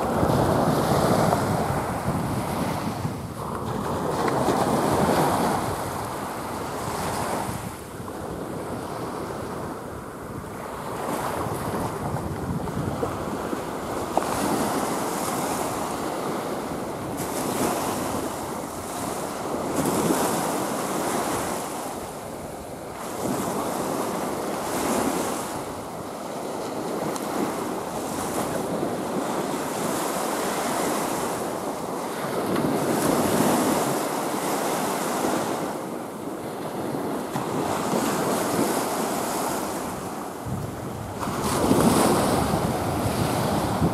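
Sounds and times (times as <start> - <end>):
small waves breaking on beach: 0.0 - 43.9.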